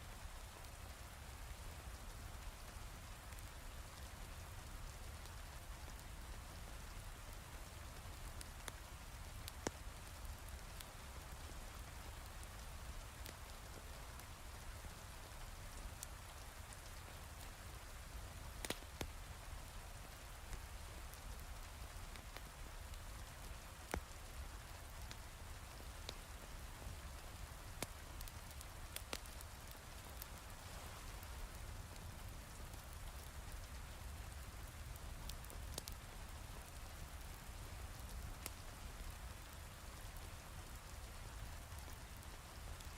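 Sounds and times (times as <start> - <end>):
heavy rain with low rumble: 0.0 - 42.9
log fire crackling: 0.1 - 42.9.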